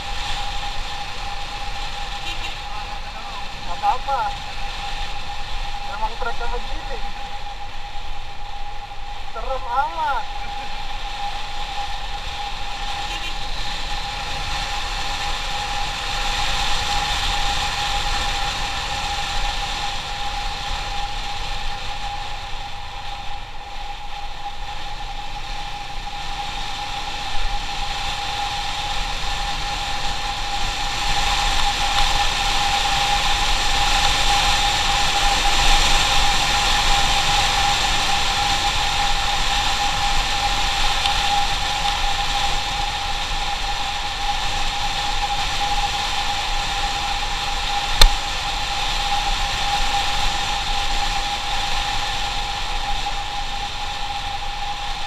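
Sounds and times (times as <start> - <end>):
motorcycle engine whine: 0.0 - 55.0
wind rush on microphone: 0.0 - 55.0.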